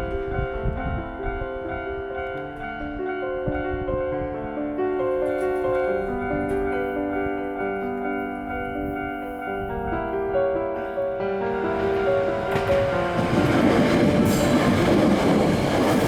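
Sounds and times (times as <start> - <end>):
slow piano-like keyboard music: 0.0 - 16.0.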